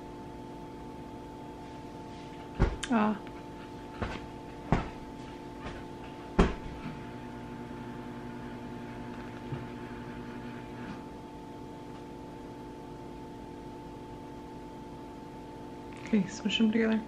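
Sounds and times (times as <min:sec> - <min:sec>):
appliance electrical hum: 0:00.0 - 0:17.0.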